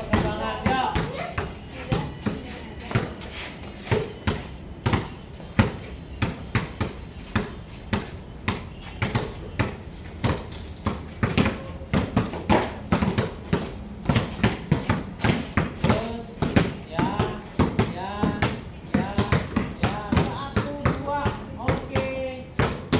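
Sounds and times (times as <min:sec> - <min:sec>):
basketballs bouncing on hard court: 0:00.0 - 0:03.2, 0:03.8 - 0:22.9.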